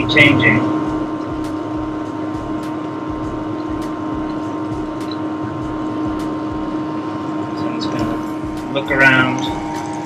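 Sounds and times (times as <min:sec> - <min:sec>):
electric pump humming: 0:00.0 - 0:10.0
liquid churning: 0:00.0 - 0:10.0.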